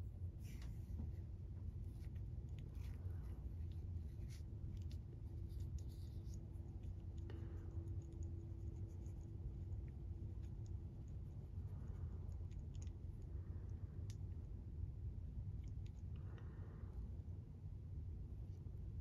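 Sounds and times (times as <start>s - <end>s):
faint steady tone: 0.0s - 19.0s
steady low hum: 0.0s - 19.0s.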